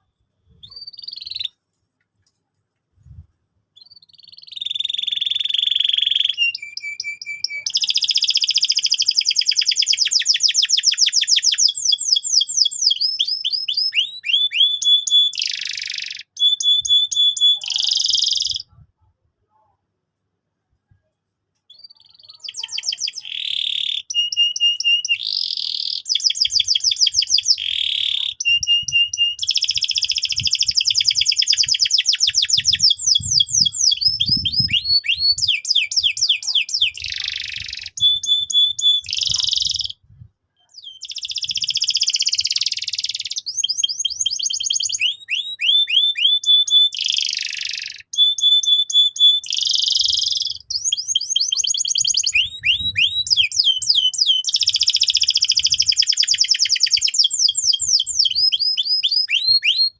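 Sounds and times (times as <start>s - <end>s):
canary singing trills: 0.0s - 1.6s, 3.8s - 18.9s, 21.7s - 59.9s.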